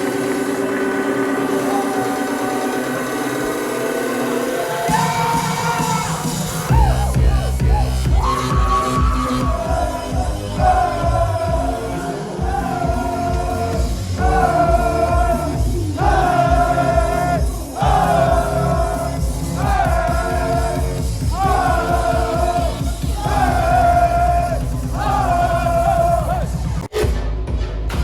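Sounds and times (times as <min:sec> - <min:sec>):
electronic dance music: 0:00.0 - 0:28.0.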